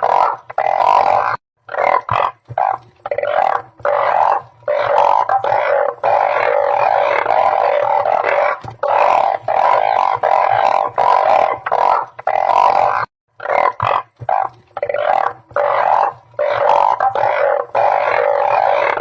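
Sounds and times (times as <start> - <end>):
frogs droning calls: 0.0 - 19.0.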